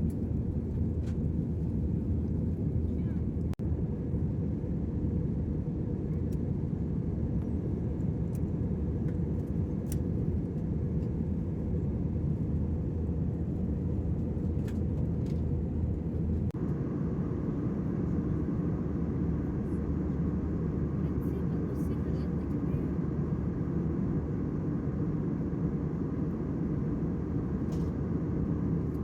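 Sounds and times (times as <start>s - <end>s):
airliner cabin engine rumble: 0.0s - 29.0s.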